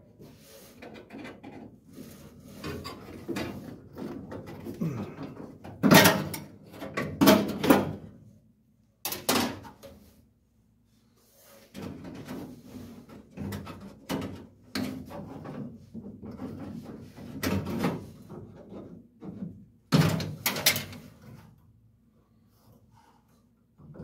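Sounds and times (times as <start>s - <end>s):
objects clunking and scraping: 0.0s - 8.1s, 9.0s - 10.2s, 11.3s - 21.8s.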